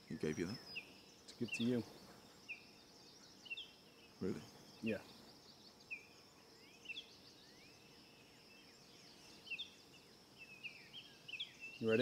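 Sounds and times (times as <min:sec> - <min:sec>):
birds chirping: 0:00.0 - 0:12.0
faint high hiss: 0:00.0 - 0:12.0.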